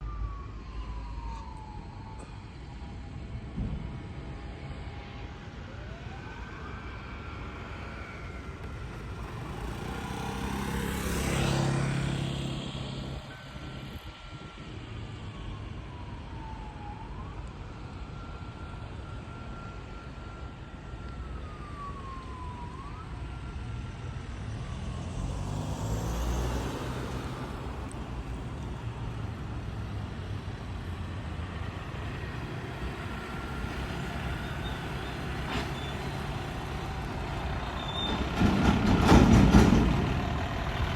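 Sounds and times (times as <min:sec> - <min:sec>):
faint siren-like tone: 0:00.0 - 0:03.8, 0:04.5 - 0:28.9, 0:31.4 - 0:38.2
vehicles passing on a street: 0:00.0 - 0:40.9.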